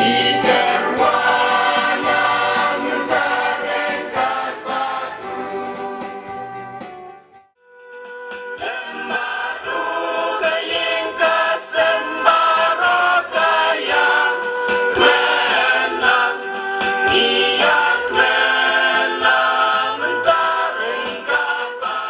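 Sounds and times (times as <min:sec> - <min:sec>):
choir singing in harmony: 0:00.0 - 0:07.0, 0:08.5 - 0:22.0
instrumental accompaniment: 0:00.0 - 0:22.0.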